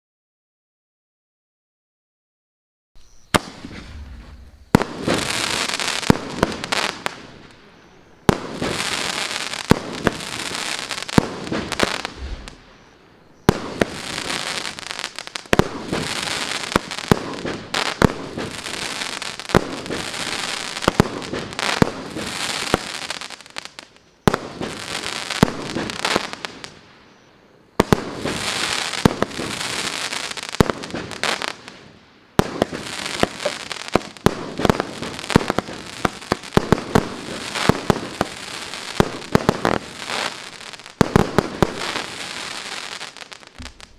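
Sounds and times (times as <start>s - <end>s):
firework crackling: 3.0s - 43.9s
firework bangs: 3.2s - 43.9s.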